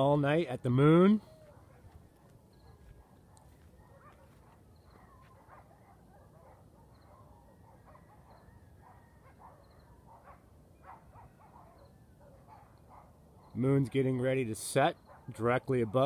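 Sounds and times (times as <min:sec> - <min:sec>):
distant dogs barking and howling: 0:00.0 - 0:16.0.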